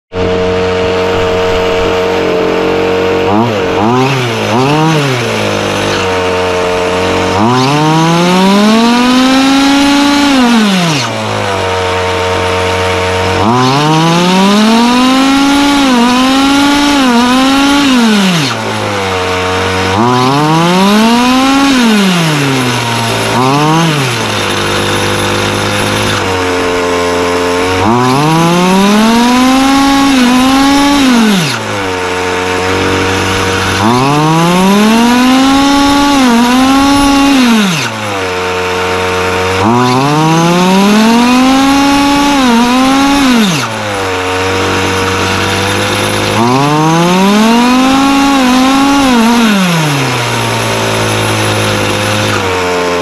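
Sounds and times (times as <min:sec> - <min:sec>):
small two-stroke engine revving: 0:00.1 - 0:53.0.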